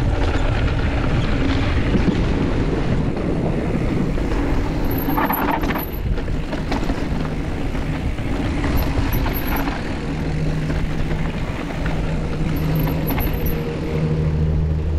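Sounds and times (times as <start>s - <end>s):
bike rattles and knocks: 0.0s - 14.3s
tyres rumbling on trail: 0.0s - 14.9s
wind on microphone: 0.0s - 14.9s.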